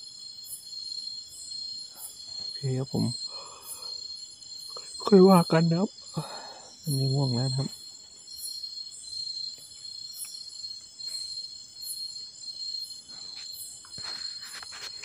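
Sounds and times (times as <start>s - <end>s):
crickets trilling: 0.0s - 15.0s
high insect chirp: 0.0s - 15.0s.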